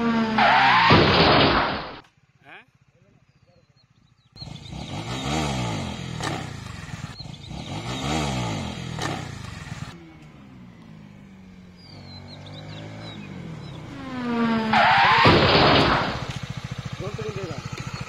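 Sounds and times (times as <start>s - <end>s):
motorcycle engine revving: 0.0s - 2.1s, 2.8s - 18.0s.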